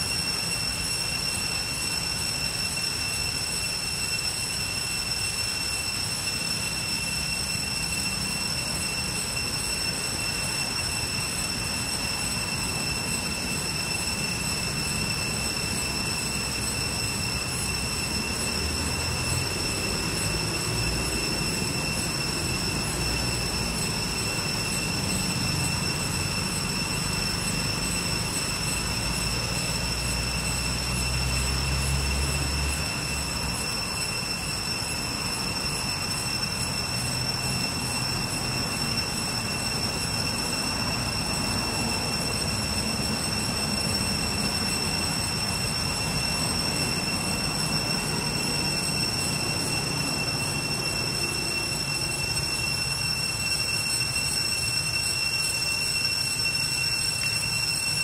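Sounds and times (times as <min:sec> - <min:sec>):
cicada chorus drone: 0:00.0 - 0:58.0.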